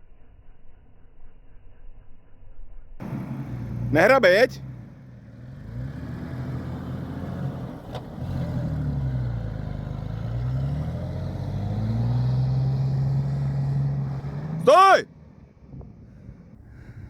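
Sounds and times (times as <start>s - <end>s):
off-road vehicle engine revving: 3.0s - 17.0s.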